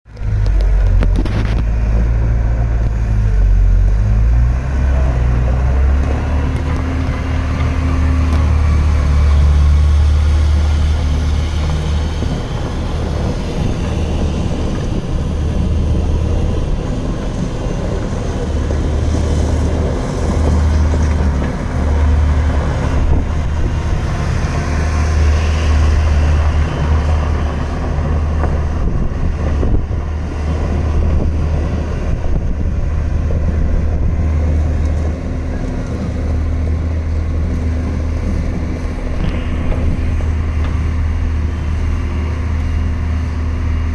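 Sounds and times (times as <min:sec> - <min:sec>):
diesel excavator engine running: 0:00.1 - 0:43.9.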